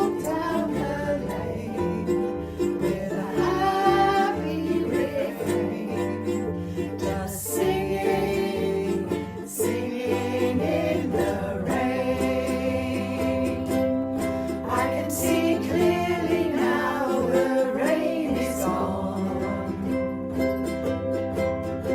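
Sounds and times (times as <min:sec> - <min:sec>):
person singing: 0:00.0 - 0:21.2
strummed ukulele: 0:00.0 - 0:21.9.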